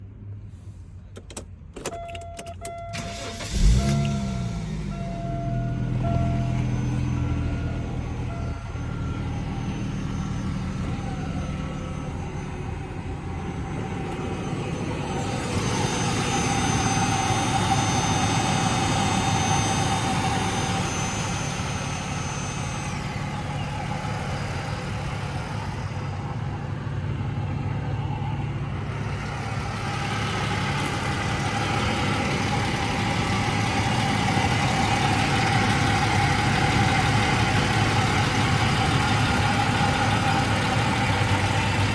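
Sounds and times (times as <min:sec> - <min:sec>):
car engine idling: 0:00.6 - 0:41.9
power roof motor whine: 0:02.6 - 0:41.9.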